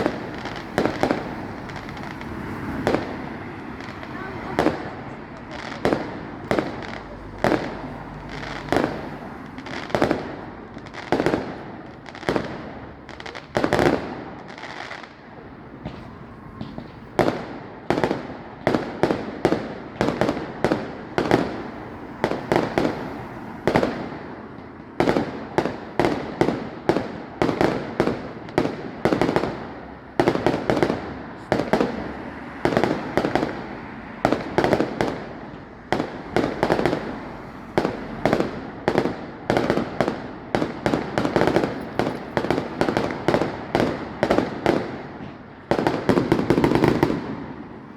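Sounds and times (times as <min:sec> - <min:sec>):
fireworks bursting with echo: 0:00.0 - 0:47.9.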